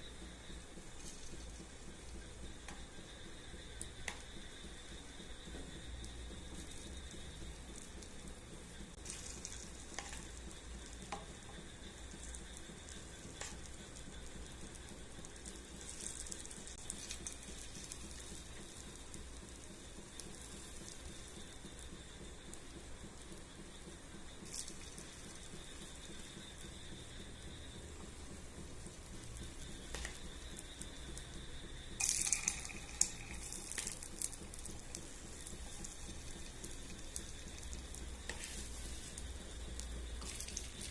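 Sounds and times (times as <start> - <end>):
batter sizzling in a pan: 0.0 - 40.9.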